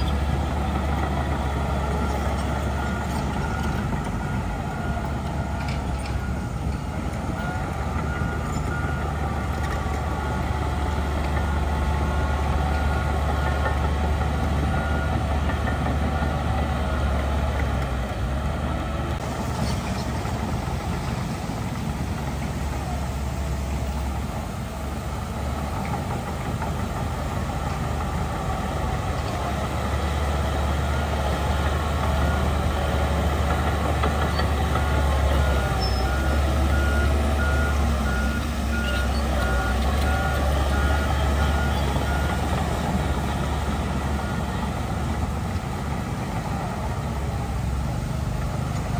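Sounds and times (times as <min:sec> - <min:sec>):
heavy diesel engine droning: 0:00.0 - 0:48.9.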